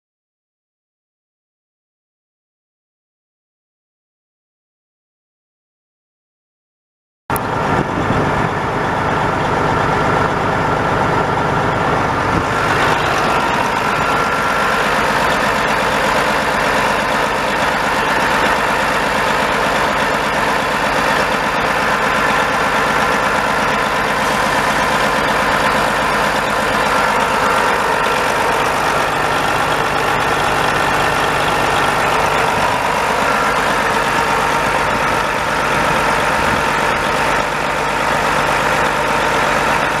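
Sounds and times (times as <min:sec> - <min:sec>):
diesel truck engine idling: 0:07.3 - 0:40.0.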